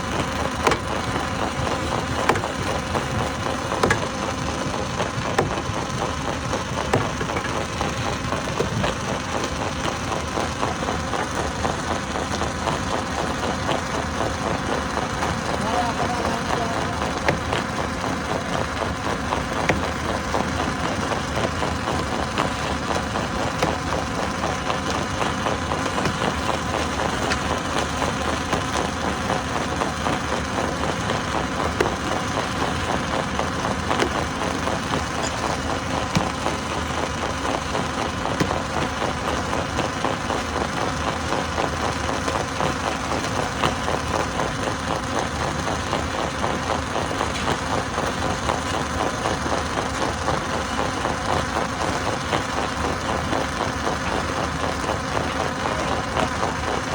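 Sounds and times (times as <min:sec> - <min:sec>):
stone crusher rumbling: 0:00.0 - 0:53.0.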